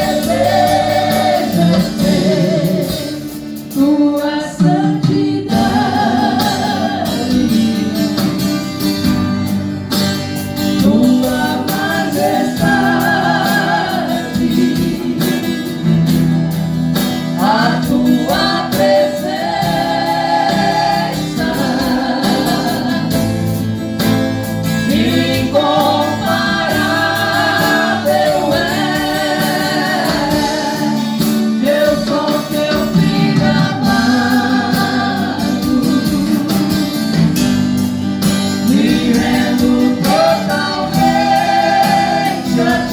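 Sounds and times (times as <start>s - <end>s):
gospel voices singing together: 0.0s - 9.6s, 10.4s - 42.9s
guitar accompaniment: 0.0s - 42.9s.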